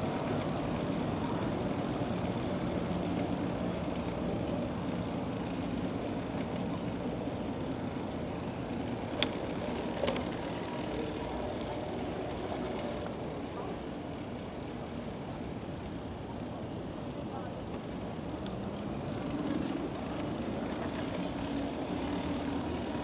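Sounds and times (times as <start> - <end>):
city street noise: 0.0 - 23.0.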